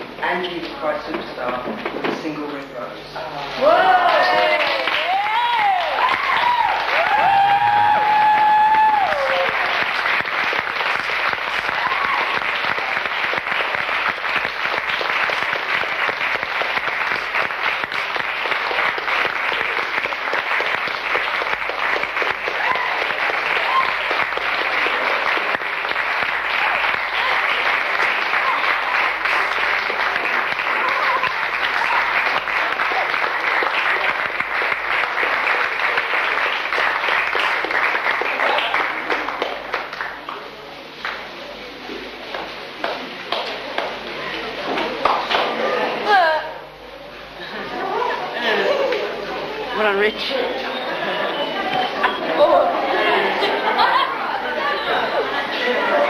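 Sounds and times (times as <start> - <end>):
audience applause: 3.6 - 46.2, 47.6 - 56.0.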